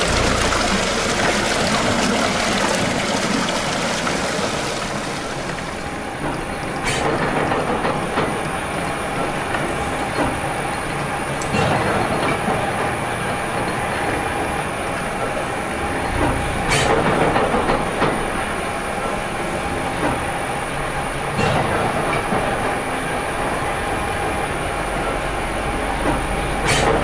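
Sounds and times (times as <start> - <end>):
steam engine clatter and hiss: 0.0 - 27.0.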